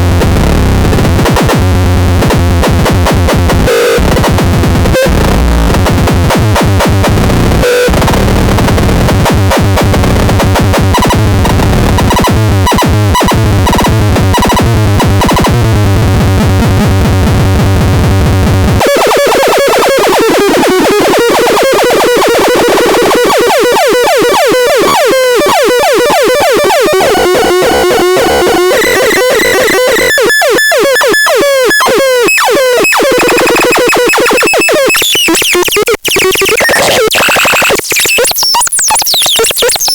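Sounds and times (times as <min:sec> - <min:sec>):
harsh electronic synthesizer noise: 0:00.0 - 0:39.9.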